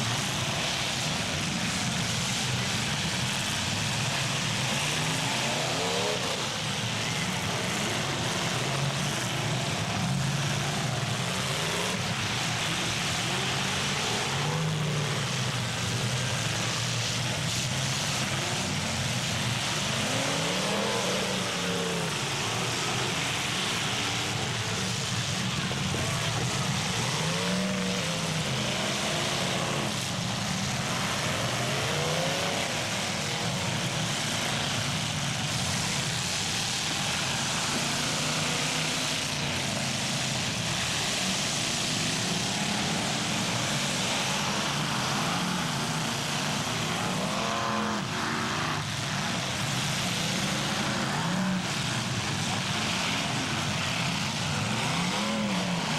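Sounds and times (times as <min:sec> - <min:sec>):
car engines revving: 0:00.0 - 0:55.9
dense noisy din: 0:00.0 - 0:55.9.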